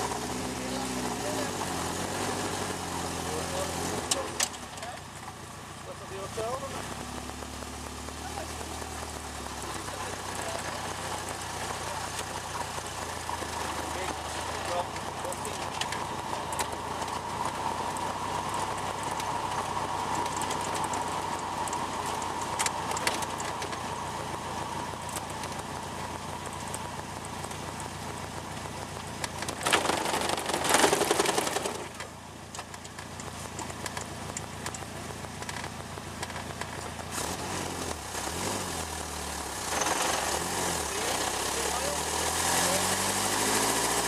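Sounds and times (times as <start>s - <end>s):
sports car engine and road noise: 0.0s - 44.0s.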